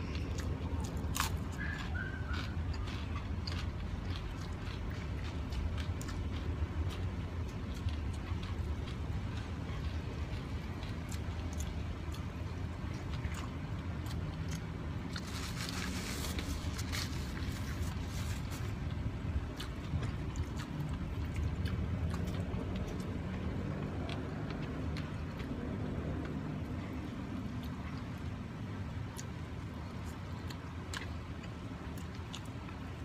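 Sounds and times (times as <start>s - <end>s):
man chewing and smacking: 0.0s - 33.0s
steady low rumble: 0.0s - 33.0s.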